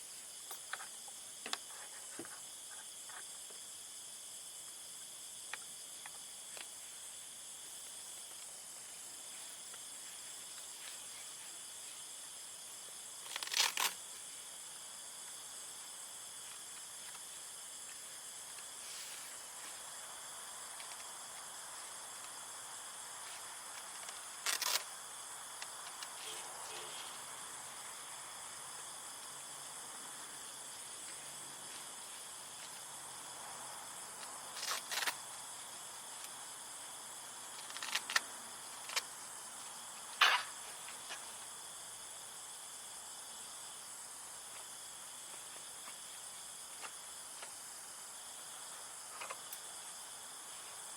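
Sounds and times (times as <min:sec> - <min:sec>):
insects chirping: 0:00.0 - 0:50.9.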